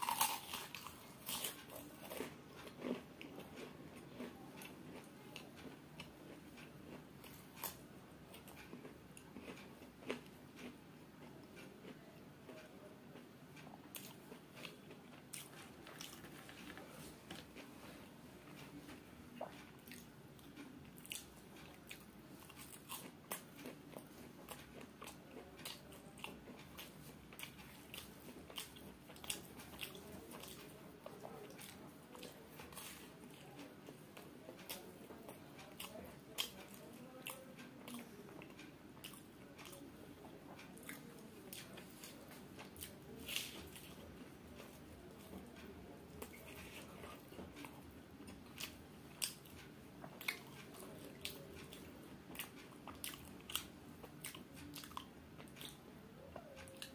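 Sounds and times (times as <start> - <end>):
chewing crisp fried food: 0.0 - 56.9.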